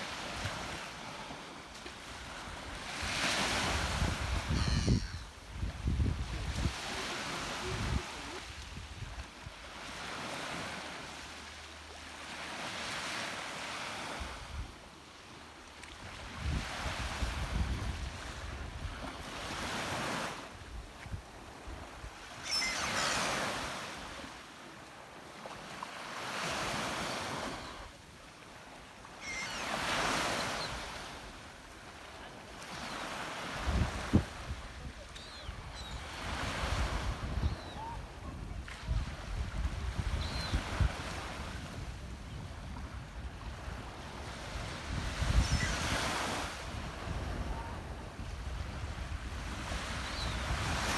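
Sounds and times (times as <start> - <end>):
waves breaking on shore: 0.0 - 50.9.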